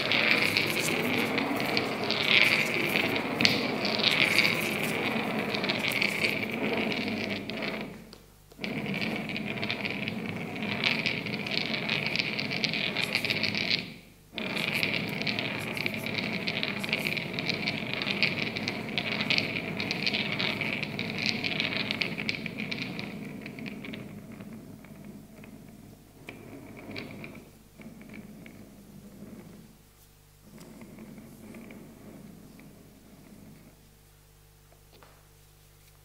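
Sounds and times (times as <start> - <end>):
stones scraping on hard floor: 0.0 - 34.0.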